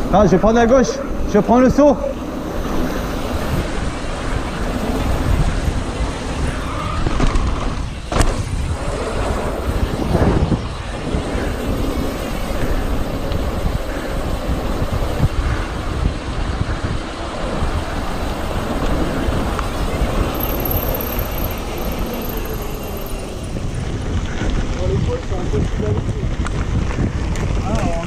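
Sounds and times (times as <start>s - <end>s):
bike tyres rolling on lane: 0.0s - 28.0s
wind buffeting microphone: 0.0s - 28.0s.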